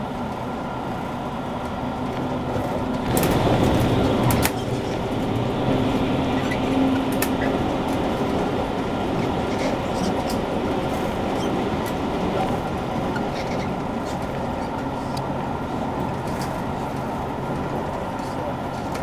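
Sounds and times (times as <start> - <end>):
train running noise: 0.0 - 19.0.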